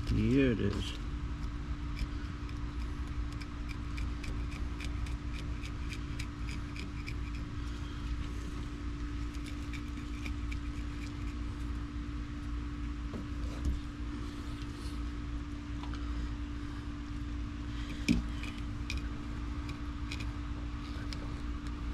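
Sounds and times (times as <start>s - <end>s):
steady hum: 0.0s - 21.9s.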